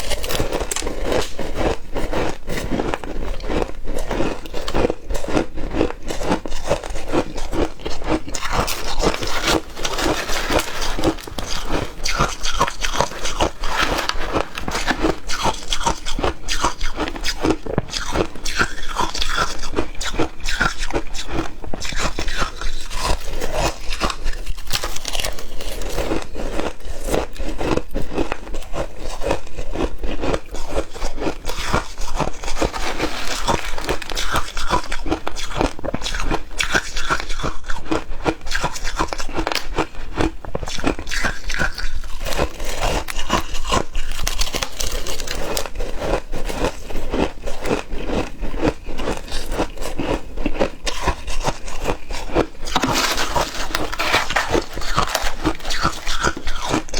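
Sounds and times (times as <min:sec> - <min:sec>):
crunching and chewing ice: 0:00.0 - 0:56.9.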